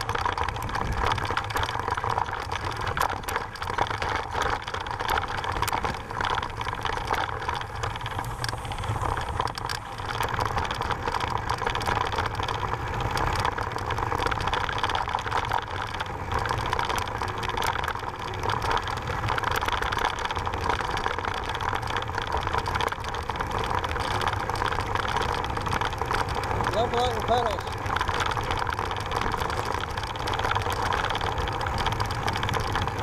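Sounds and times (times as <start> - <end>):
tyres clicking and rattling on stones: 0.0 - 33.0
wind and riding rumble: 0.0 - 33.0.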